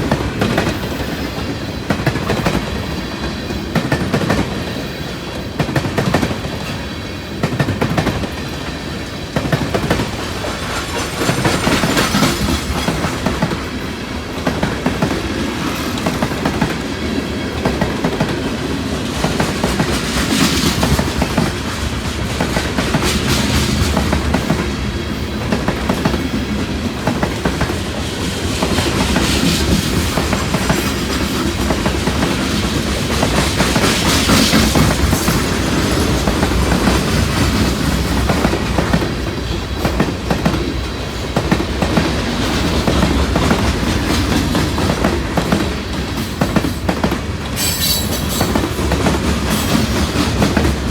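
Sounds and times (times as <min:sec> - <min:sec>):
freight train wheels clacking: 0:00.0 - 0:50.9.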